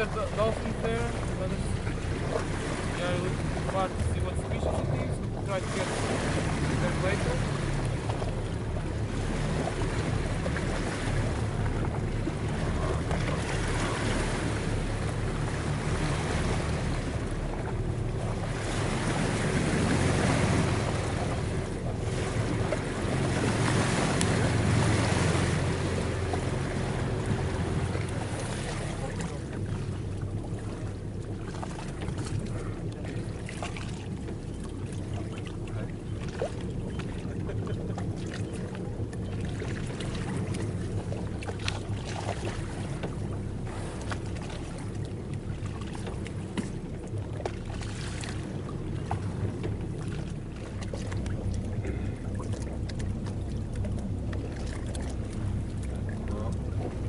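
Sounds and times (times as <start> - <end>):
boat engine idling: 0.0 - 57.0
water splashing: 0.0 - 57.0
wind: 0.0 - 57.0.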